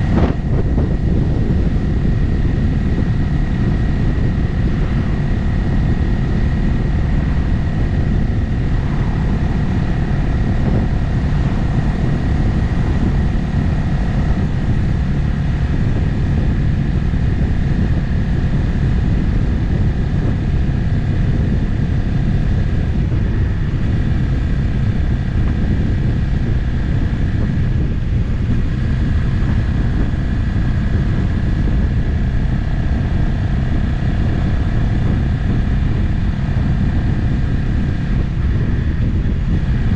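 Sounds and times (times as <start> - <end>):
motorcycle engine cruising: 0.0 - 39.9
road noise rumble: 0.0 - 39.9.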